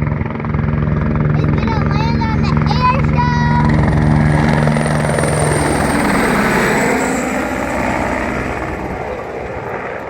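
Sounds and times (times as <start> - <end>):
helicopter rotor and engine: 0.0 - 10.0
high turbine whine: 0.0 - 10.0.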